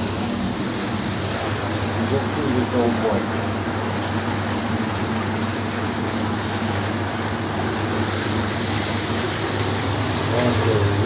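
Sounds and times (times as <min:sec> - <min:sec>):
churning water and air: 0:00.0 - 0:11.0
pump humming: 0:00.0 - 0:11.0.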